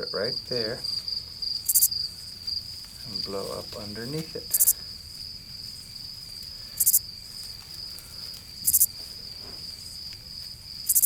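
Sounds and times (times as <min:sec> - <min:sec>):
cricket-like trill: 0:00.0 - 0:11.0
high buzzy insect call: 0:00.0 - 0:11.0.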